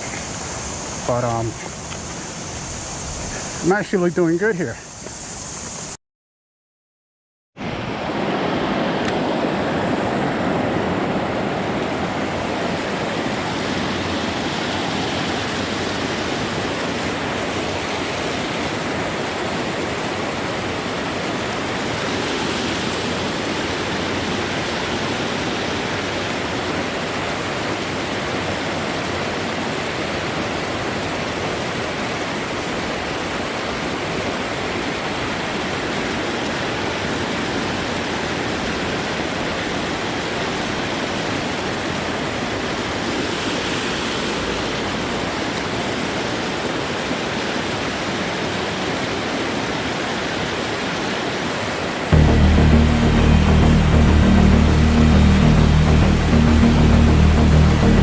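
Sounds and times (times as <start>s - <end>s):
creek water rushing: 0.0s - 6.0s, 7.6s - 58.0s.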